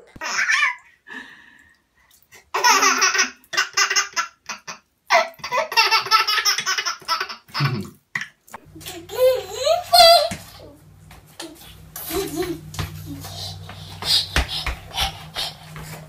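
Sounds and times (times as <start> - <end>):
baby laughing: 0.1 - 0.8, 2.5 - 10.7, 11.6 - 15.9.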